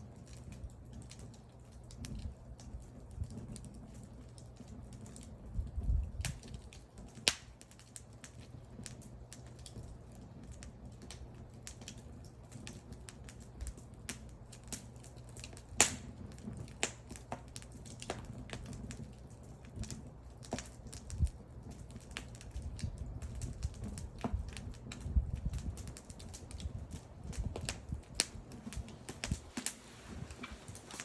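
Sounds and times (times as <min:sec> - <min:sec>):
low steady rumble: 0:00.0 - 0:31.0
wood fire crackling: 0:00.0 - 0:31.0.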